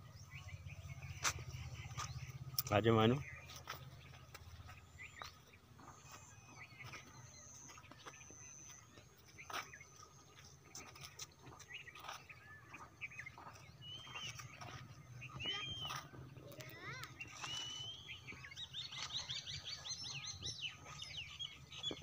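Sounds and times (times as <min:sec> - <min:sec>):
birds chirping and whistling: 0:00.0 - 0:22.0.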